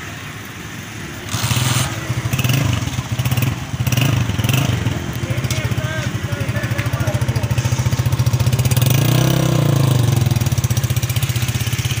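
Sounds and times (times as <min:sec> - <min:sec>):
motorcycle engine revving: 0:01.2 - 0:12.0.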